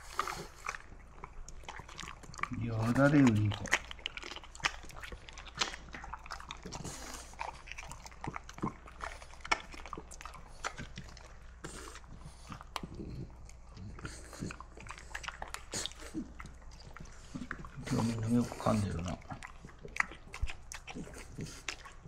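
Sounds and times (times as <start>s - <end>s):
dog licking and chewing: 0.0s - 22.0s.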